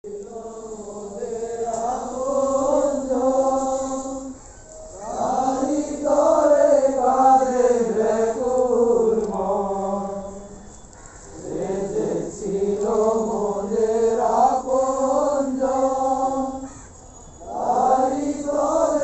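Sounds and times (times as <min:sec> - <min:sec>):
group chanting a prayer: 0:00.0 - 0:19.0.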